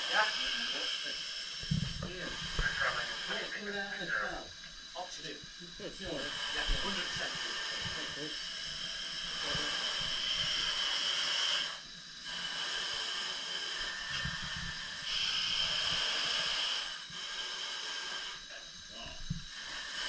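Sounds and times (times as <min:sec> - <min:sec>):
gas hissing in chamber: 0:00.0 - 0:20.0.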